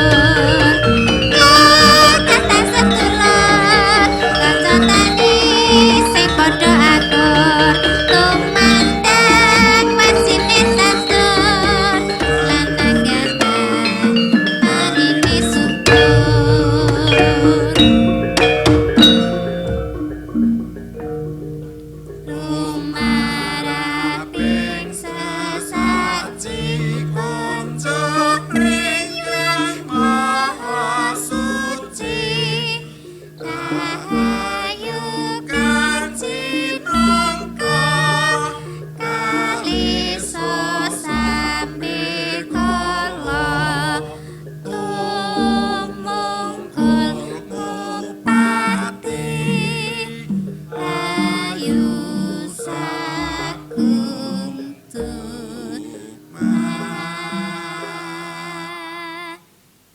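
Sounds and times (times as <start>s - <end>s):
person singing with vibrato: 0.0s - 20.4s, 22.0s - 59.6s
metallophones and gongs ringing: 0.0s - 56.9s.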